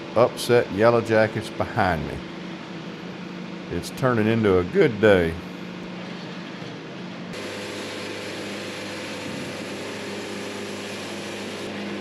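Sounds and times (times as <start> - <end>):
sawmill running: 0.0 - 12.0.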